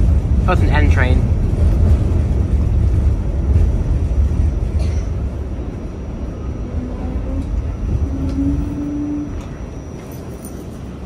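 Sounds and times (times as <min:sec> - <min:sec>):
subway train rumbling in tunnel: 0:00.0 - 0:11.0.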